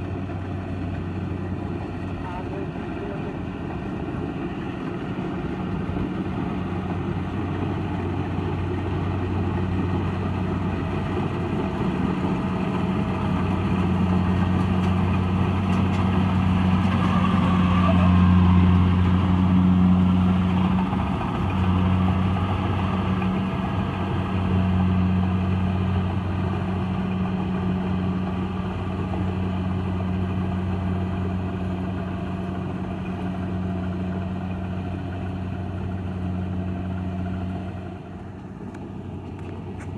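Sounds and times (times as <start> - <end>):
harvester diesel engine running: 0.0 - 39.9.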